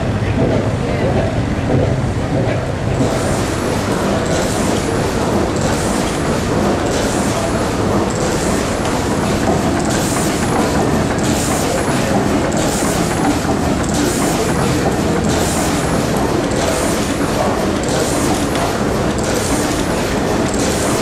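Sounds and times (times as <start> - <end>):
gas engine running with hissing beat: 0.2 - 21.0.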